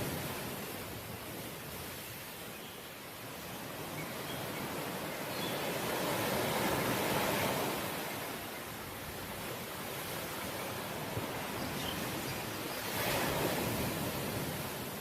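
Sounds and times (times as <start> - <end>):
ocean waves washing ashore: 0.0 - 15.0.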